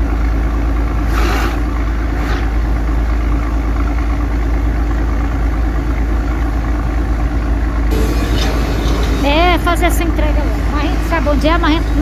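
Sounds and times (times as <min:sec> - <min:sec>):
road noise: 0:00.0 - 0:12.0
truck diesel engine rumbling: 0:00.0 - 0:12.0.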